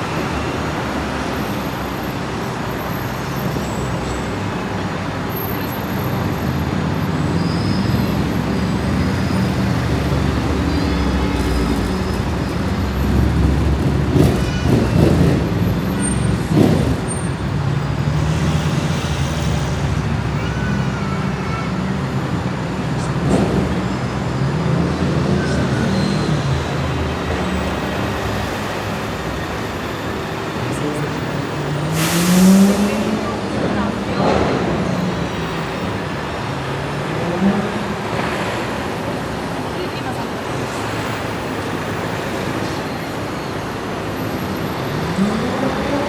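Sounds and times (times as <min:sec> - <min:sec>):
heavy city traffic: 0:00.0 - 0:46.0.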